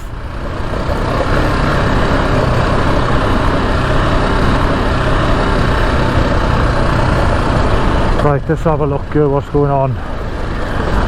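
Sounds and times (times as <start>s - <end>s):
constant rushing noise: 0.0s - 11.0s
motorcycle engine running: 0.0s - 11.0s.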